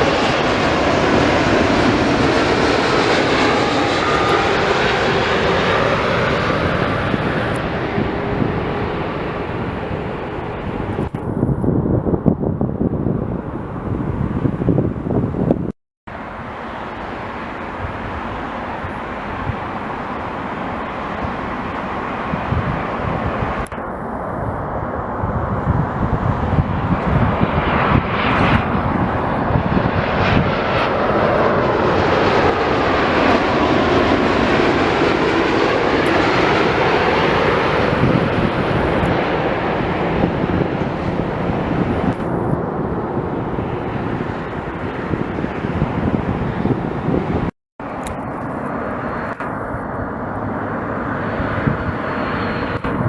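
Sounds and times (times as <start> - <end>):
jet airliner passing: 0.0 - 53.0.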